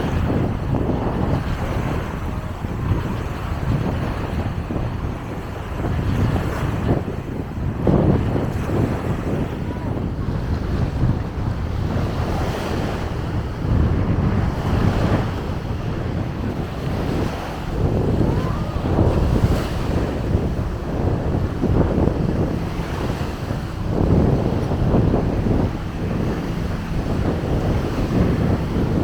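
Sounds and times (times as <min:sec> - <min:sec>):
sea waves breaking on beach: 0:00.0 - 0:29.0
wind buffeting microphone: 0:00.0 - 0:29.0.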